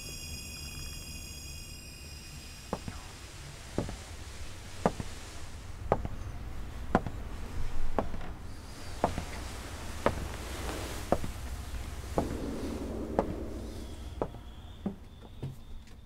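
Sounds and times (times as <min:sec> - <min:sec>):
low steady hum: 0:02.3 - 0:15.8.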